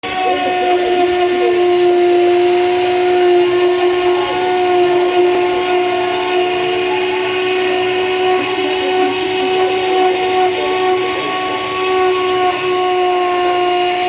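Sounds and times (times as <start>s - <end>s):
spindle motor high whine: 0.0s - 14.0s.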